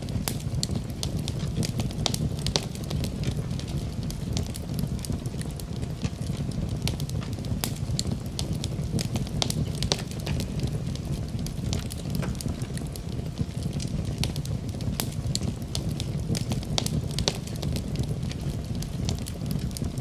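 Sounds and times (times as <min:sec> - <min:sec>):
burning wood crackling and popping: 0:00.0 - 0:20.0
fire flames rumbling: 0:00.0 - 0:20.0.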